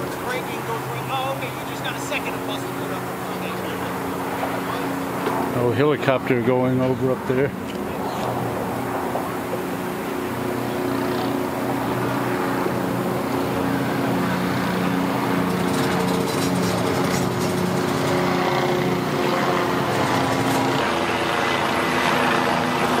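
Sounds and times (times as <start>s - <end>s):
helicopter engine and rotor drone: 0.0s - 23.0s.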